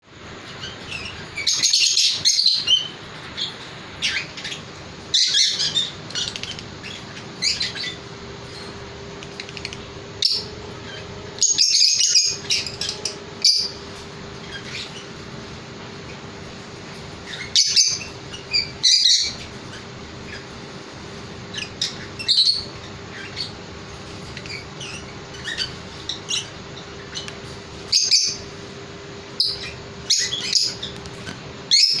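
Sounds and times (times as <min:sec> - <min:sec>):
faint steady hum: 0:00.0 - 0:32.0
birds chirping: 0:00.1 - 0:32.0.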